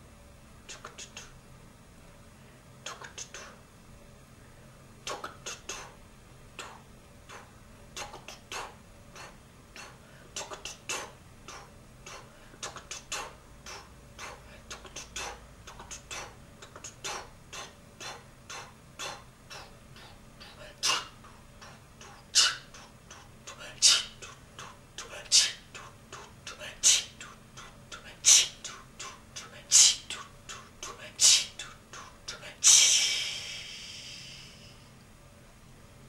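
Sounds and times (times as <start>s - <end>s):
faint low hum: 0.0s - 36.0s.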